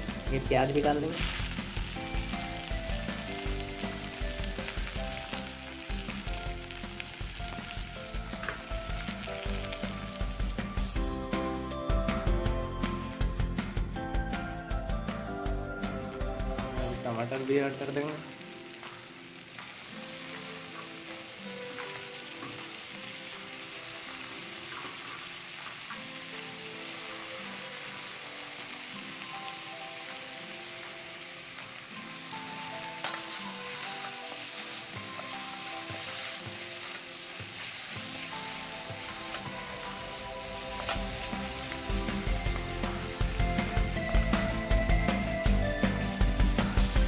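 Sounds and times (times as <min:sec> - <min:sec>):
vegetables sizzling in oil: 0:00.0 - 0:11.2, 0:16.5 - 0:47.0.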